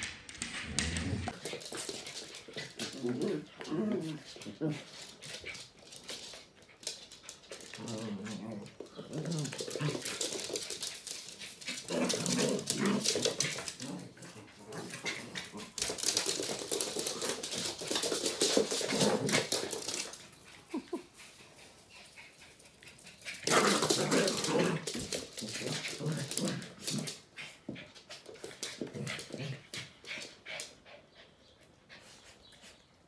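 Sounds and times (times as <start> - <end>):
claws scrabbling on wooden floor: 0.4 - 21.0, 22.6 - 30.4.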